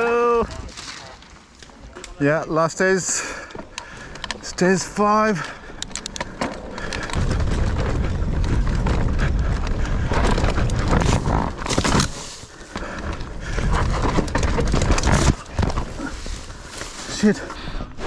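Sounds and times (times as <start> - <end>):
wind and tyre rumble: 0.0 - 18.0.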